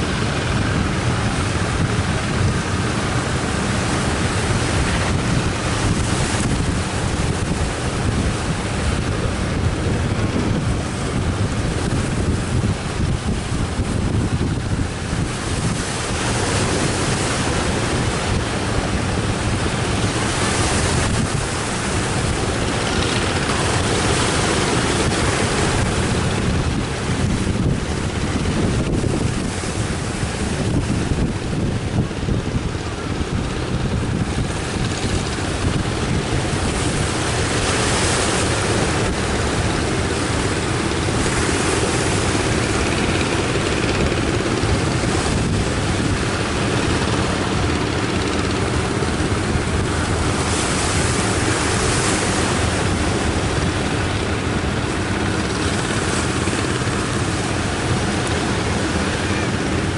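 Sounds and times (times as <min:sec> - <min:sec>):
surf breaking on beach: 0:00.0 - 0:59.9
wind buffeting microphone: 0:00.0 - 0:59.9.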